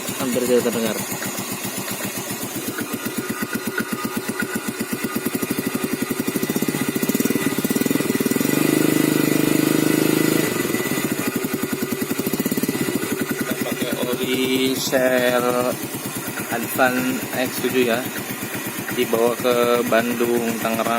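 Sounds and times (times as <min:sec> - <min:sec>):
motorcycle engine idling and revving: 0:00.0 - 0:20.9.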